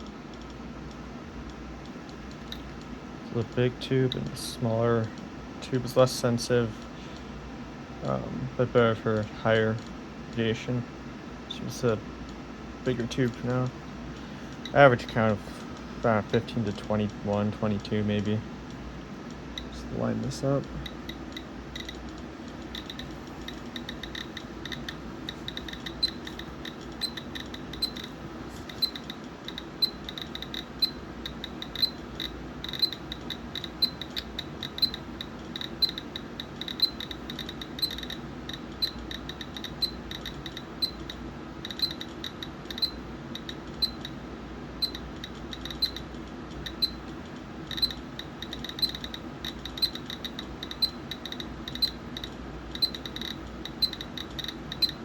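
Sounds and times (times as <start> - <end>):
geiger counter clicking: 0.0 - 4.4, 14.4 - 55.0.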